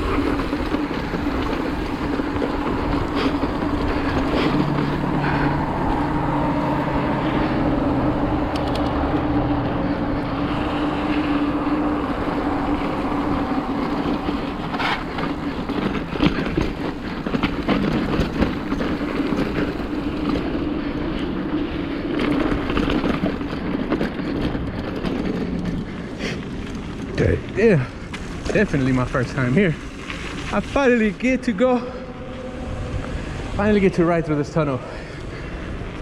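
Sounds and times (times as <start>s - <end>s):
bike rattling over rough ground: 0.0s - 36.0s
bike tyres rolling on dirt: 0.0s - 36.0s.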